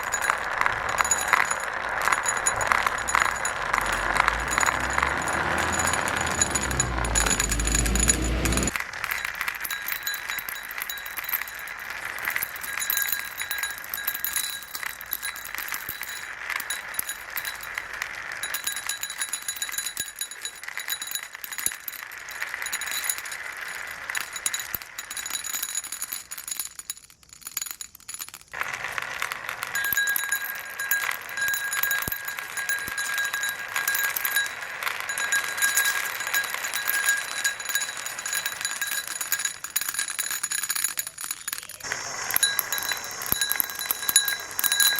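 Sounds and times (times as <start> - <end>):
marbles rolling and clicking: 0.0 - 44.9.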